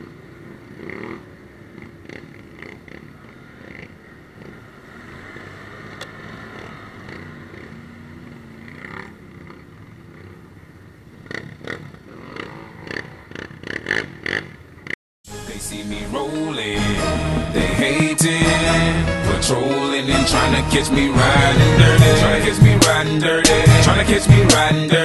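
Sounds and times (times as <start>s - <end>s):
quad engine running: 0.0s - 25.0s.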